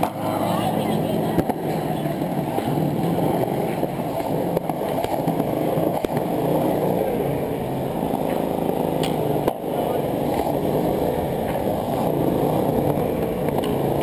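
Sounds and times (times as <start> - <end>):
skateboard clacks: 0.0 - 14.0
skateboard wheels rolling on concrete: 0.0 - 14.0.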